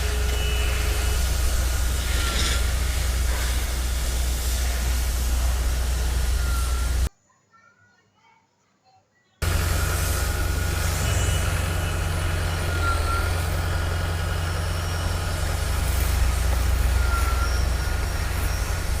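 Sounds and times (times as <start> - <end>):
heavy engine droning: 0.0 - 7.1, 9.4 - 19.0.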